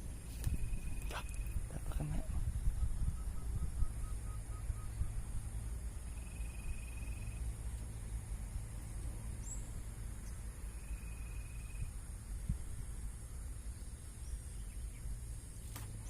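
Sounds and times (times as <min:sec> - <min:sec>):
low rumble: 0:00.0 - 0:15.5.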